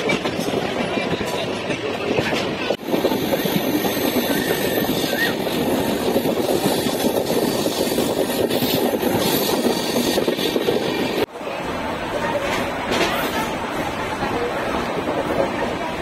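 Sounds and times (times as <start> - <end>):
train wheels rumbling and rattling: 0.0 - 16.0.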